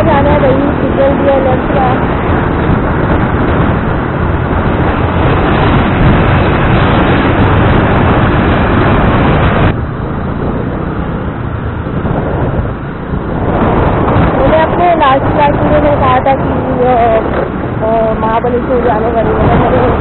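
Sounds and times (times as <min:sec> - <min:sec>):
road traffic noise: 0:00.0 - 0:20.0
wind rushing over microphone: 0:00.0 - 0:20.0.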